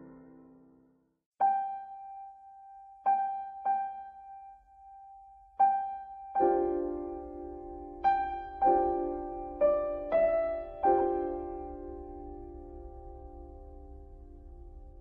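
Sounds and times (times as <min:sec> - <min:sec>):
piano notes and chord: 0:00.0 - 0:00.8, 0:01.4 - 0:15.0.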